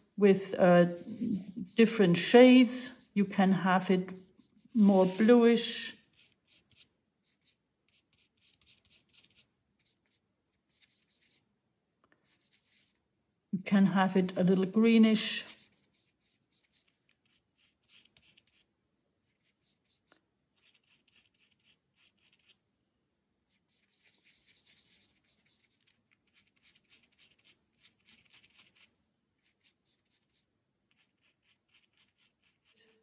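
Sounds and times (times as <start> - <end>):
paintbrush scratching on card: 0.3 - 11.5, 12.2 - 13.0, 14.0 - 22.6, 23.4 - 33.0.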